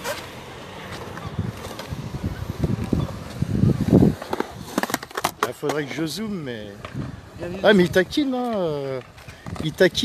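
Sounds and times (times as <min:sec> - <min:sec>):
skateboard wheels rolling on concrete: 0:00.0 - 0:10.0.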